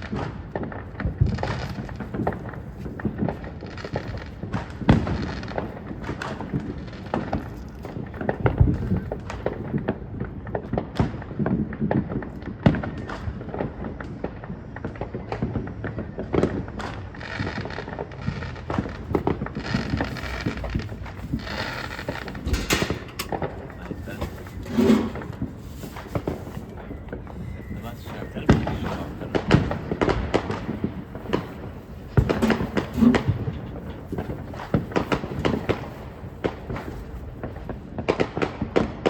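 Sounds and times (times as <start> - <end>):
fireworks bangs and crackles: 0.0 - 39.0
fireworks low booms: 0.0 - 39.0.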